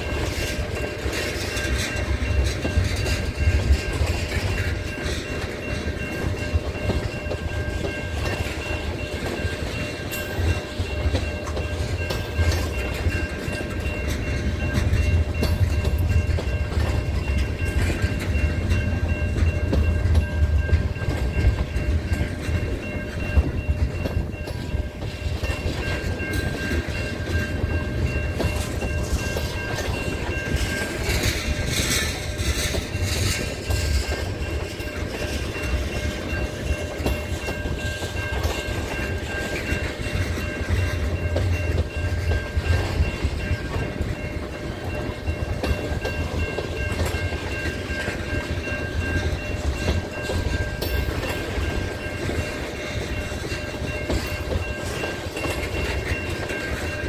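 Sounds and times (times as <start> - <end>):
train rumble: 0.0 - 57.0
train wheels clacking: 0.0 - 57.0.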